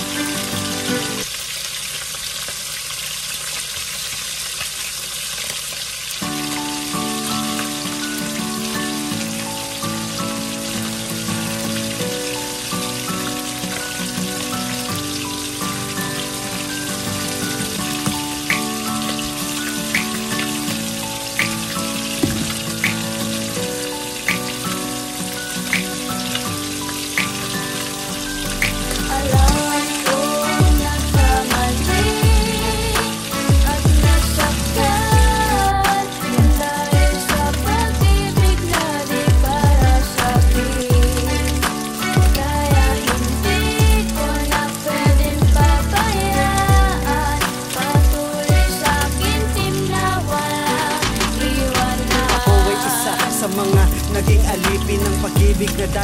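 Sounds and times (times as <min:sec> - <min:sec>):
background music with held notes: 0:00.0 - 0:01.4, 0:06.2 - 0:56.0
water boiling in a pot: 0:00.0 - 0:56.0.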